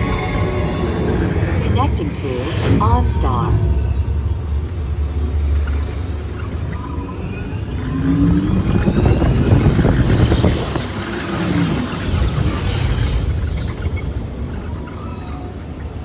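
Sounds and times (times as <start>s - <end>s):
sweeping rising and falling tones: 0.0s - 16.0s.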